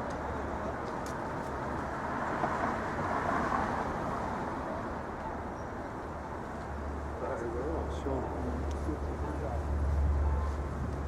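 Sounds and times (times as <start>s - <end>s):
passing street traffic: 0.0s - 11.0s.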